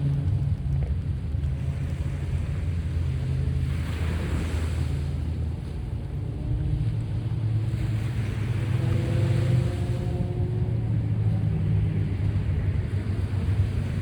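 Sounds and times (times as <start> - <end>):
sea waves washing: 0.0 - 14.0
wind rumble on microphone: 0.0 - 14.0.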